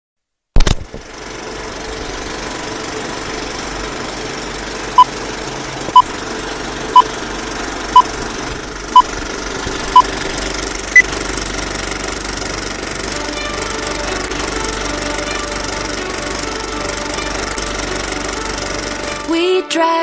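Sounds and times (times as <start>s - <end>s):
film projector rattle: 0.6s - 19.3s.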